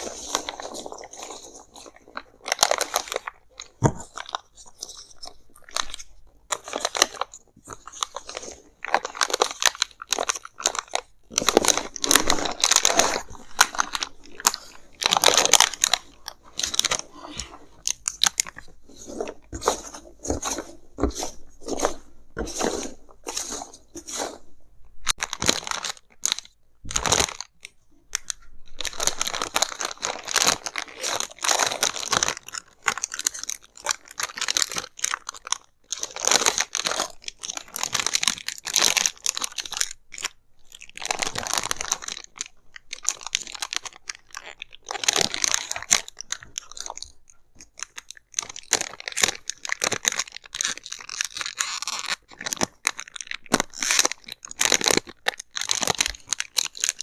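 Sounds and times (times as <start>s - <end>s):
cardboard and wrapping crinkling: 0.0s - 57.0s.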